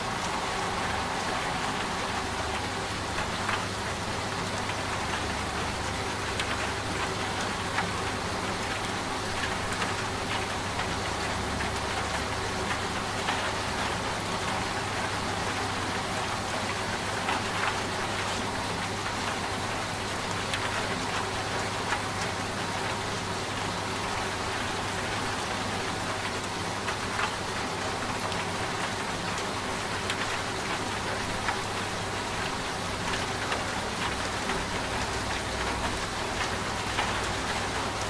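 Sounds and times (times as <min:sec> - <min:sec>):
rain falling: 0:00.0 - 0:38.0
washing machine humming: 0:00.0 - 0:38.0.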